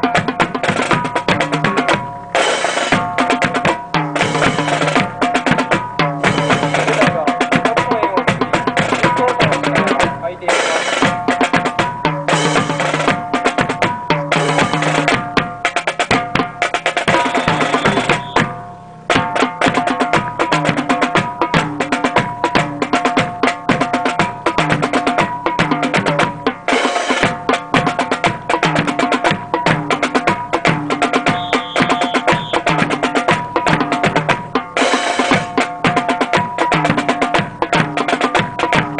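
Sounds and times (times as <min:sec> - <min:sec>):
march music with drums: 0:00.0 - 0:38.9.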